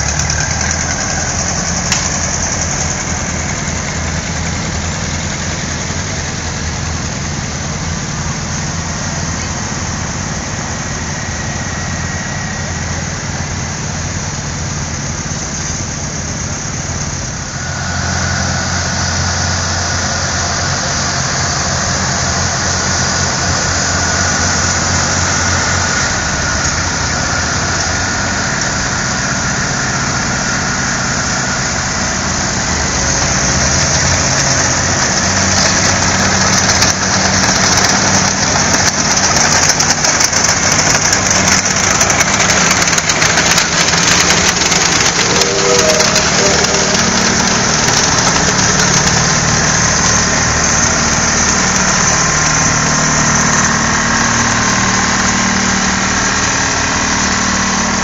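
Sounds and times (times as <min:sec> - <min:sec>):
old tractor engines passing: 0:00.0 - 0:58.0.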